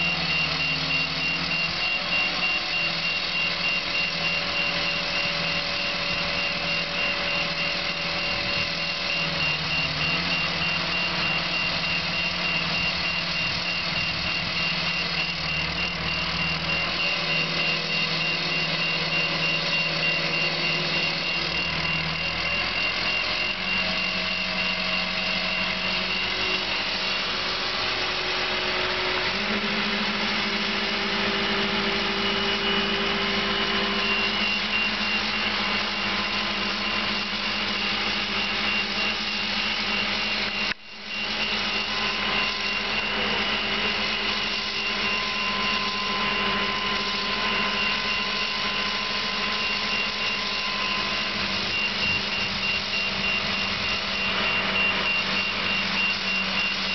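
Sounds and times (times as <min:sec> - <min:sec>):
crane diesel engine running: 0:00.0 - 0:56.9.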